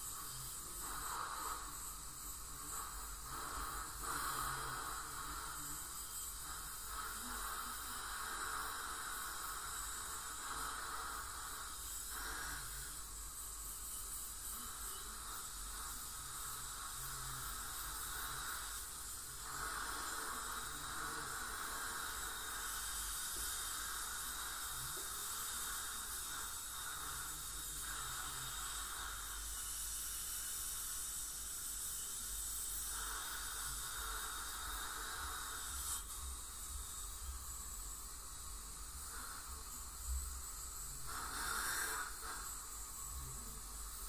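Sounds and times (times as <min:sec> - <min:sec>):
dental scaler hissing: 0:00.0 - 0:44.0
dental suction: 0:00.0 - 0:44.0.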